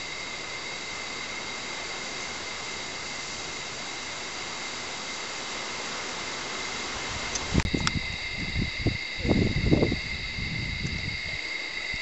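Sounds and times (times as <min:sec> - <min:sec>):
strong wind blowing: 0:00.0 - 0:12.0.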